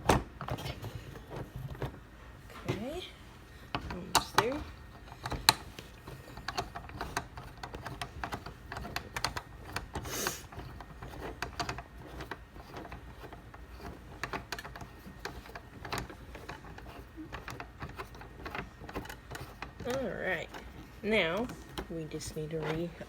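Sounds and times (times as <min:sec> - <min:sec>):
small clicks and knocks: 0:03.7 - 0:23.0.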